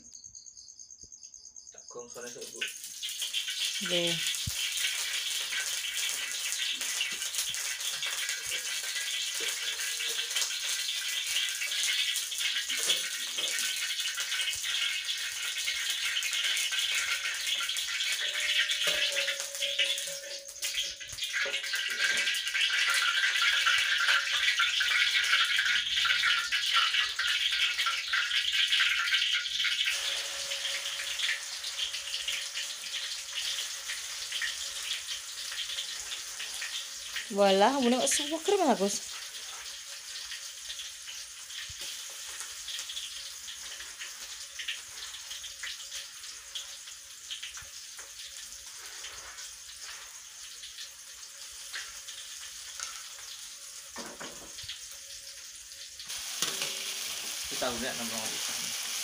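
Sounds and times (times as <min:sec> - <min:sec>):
spice paste sizzling in oil: 0:02.4 - 0:59.0.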